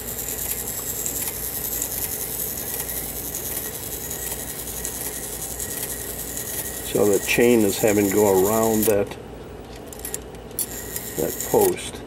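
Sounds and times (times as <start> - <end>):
clock chain clicking: 0.1 - 9.0, 10.0 - 11.8.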